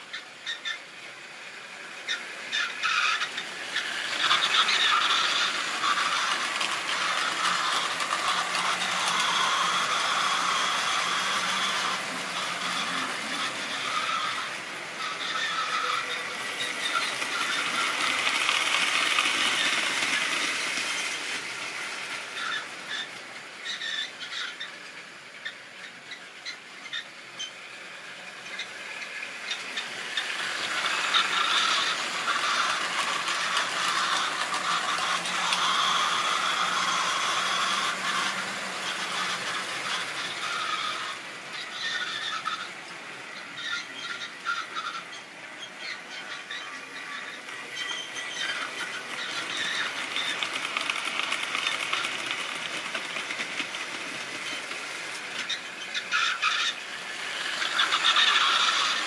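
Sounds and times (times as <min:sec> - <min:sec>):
model train wheels whirring: 0:00.0 - 0:59.0
wheels clicking over rail joints: 0:01.6 - 0:59.0.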